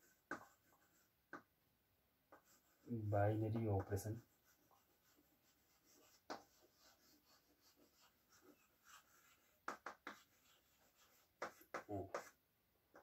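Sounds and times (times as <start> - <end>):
chalk scratching on blackboard: 0.0 - 1.4, 2.3 - 12.4.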